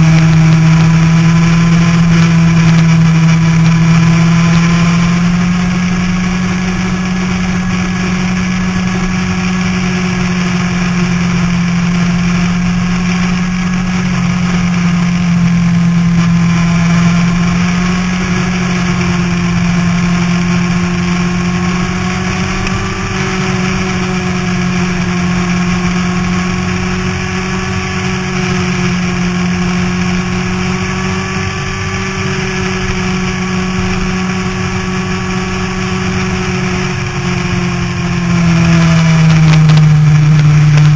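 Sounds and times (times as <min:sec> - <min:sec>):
motorcycle engine running: 0:00.0 - 0:40.9
steady rushing noise: 0:00.0 - 0:40.9.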